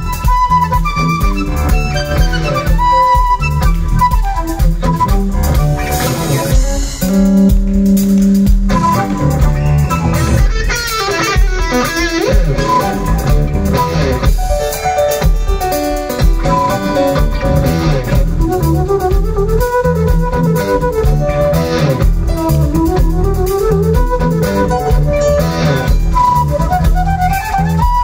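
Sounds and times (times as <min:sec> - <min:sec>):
flute melody: 0:00.0 - 0:28.0
rock band playing live: 0:00.0 - 0:28.0.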